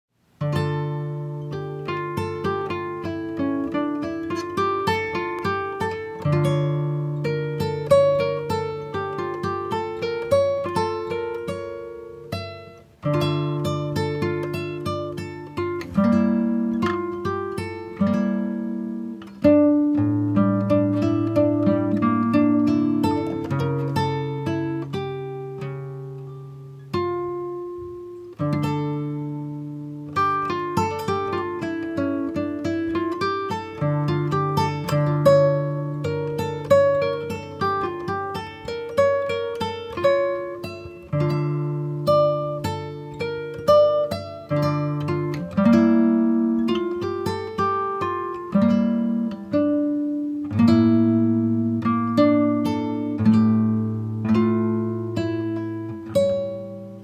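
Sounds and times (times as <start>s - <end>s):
acoustic guitar plucking: 0.2s - 57.0s.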